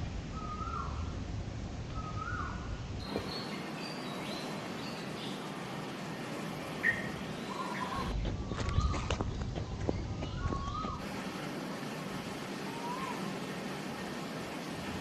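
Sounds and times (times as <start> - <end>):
steady background hiss: 0.0 - 15.0
birds calling: 2.0 - 15.0.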